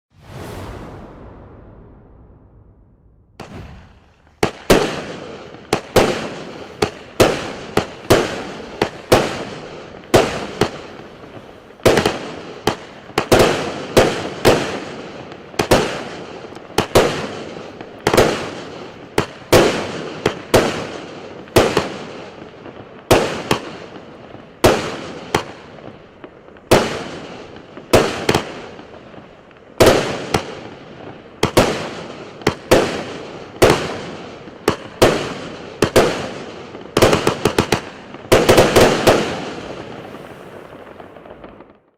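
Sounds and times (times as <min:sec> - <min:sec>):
fireworks bangs with hiss: 0:00.1 - 0:41.9.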